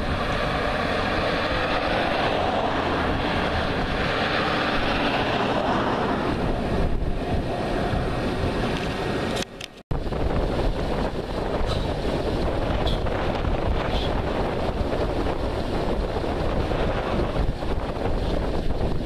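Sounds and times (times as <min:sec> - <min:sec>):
strong wind over microphone: 0:00.0 - 0:19.0.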